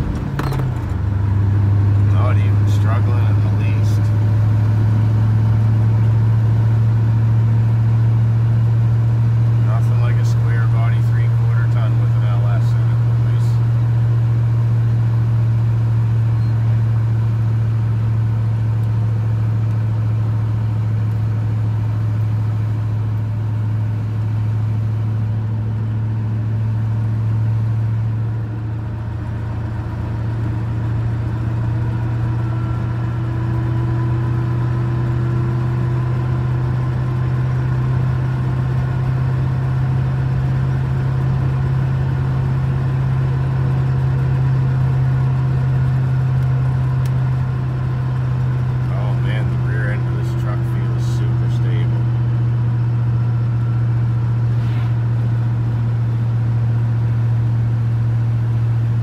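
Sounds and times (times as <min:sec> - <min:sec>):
pickup truck engine and road drone: 0:00.0 - 0:59.0.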